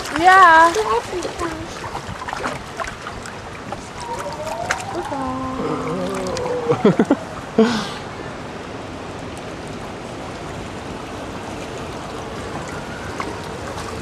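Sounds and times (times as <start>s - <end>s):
water rushing along channel: 0.0s - 14.0s.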